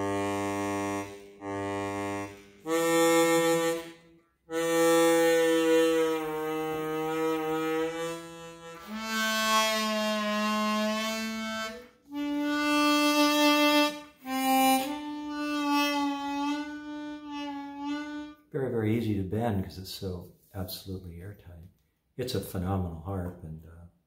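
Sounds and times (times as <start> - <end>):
bass harmonica long low notes: 0.0 - 21.4.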